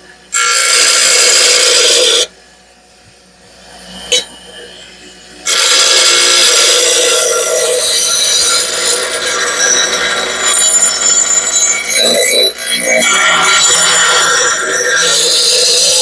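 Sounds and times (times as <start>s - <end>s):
grinding wheel grinding steel: 0.4s - 2.3s, 3.5s - 16.0s.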